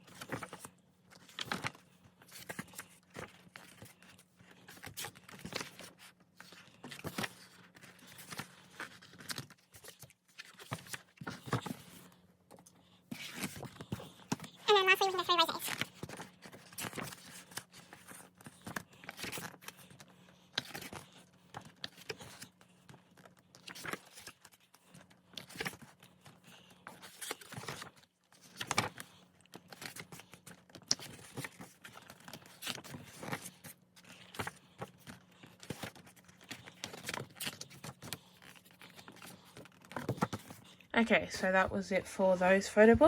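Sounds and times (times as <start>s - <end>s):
pages turning: 0.0s - 40.8s.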